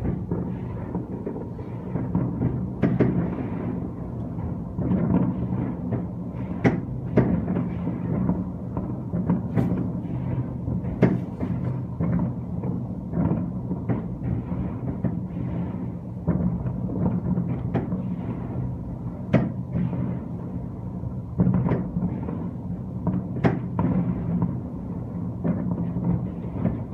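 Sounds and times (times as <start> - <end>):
fireworks bangs and pops: 0.0 - 26.9
steady low drone: 0.0 - 26.9.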